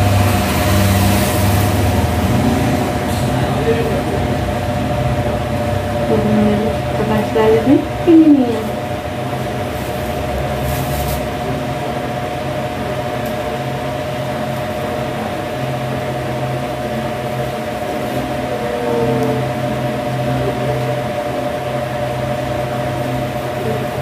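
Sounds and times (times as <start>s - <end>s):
machine hum with whine: 0.0s - 24.0s.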